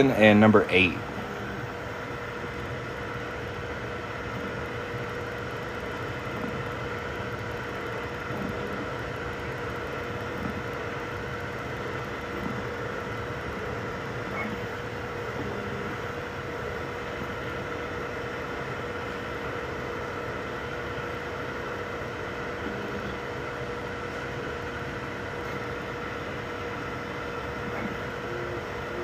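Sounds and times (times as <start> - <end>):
printer fans and motors whirring: 0.0 - 29.0.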